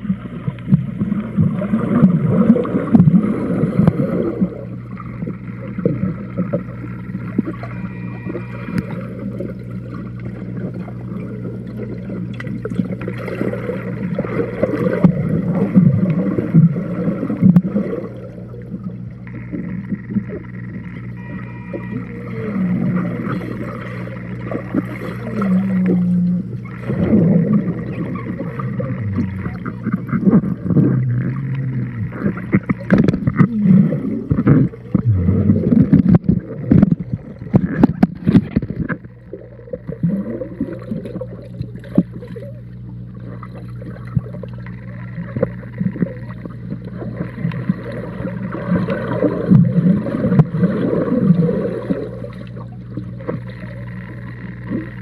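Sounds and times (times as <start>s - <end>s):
bubbly clicks: 0.0s - 55.0s
gurgling water: 0.0s - 55.0s
steady low hum: 0.0s - 55.0s.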